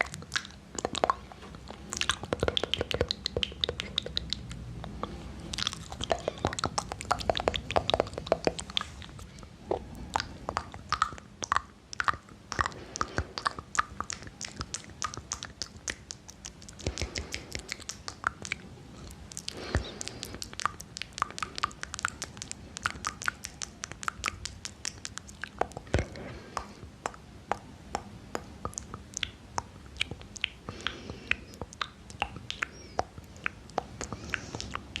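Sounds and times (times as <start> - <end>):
wet mouth clicks and lip smacks: 0.0 - 35.0.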